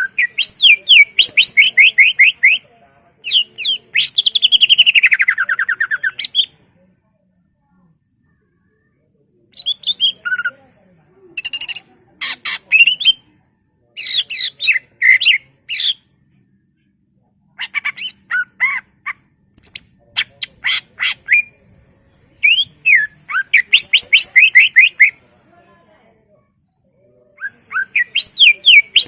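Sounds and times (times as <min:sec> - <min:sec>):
bird singing rapid chattering song: 0:00.0 - 0:06.6, 0:09.5 - 0:10.6, 0:11.3 - 0:25.2, 0:26.3 - 0:29.0.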